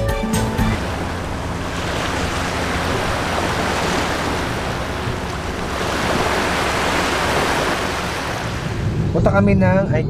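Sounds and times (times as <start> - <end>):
small waves washing onto beach: 0.8 - 9.1
wind on microphone: 0.8 - 10.0.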